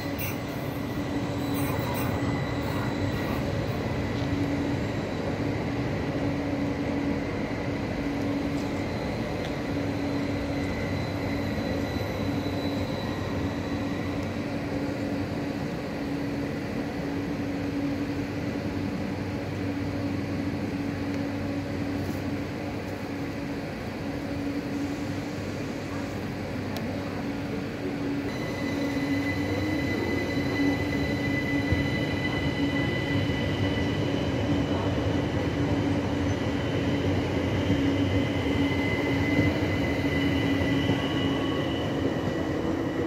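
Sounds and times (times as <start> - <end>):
electric train humming: 0.0 - 43.0
faint high whine: 0.0 - 43.0.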